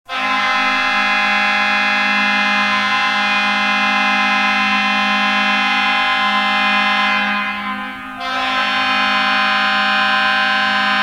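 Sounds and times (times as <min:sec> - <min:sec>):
hockey goal horn blast: 0:00.1 - 0:11.0.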